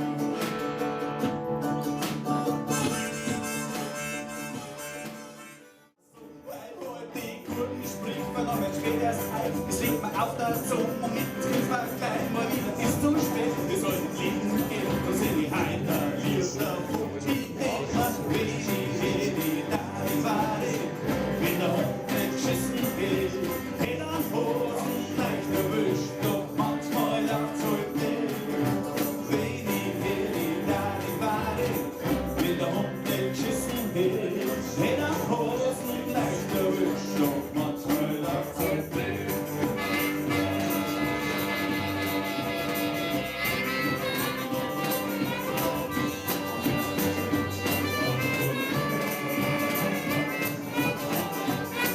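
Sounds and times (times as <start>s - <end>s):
music with jingle bells: 6.2s - 51.9s.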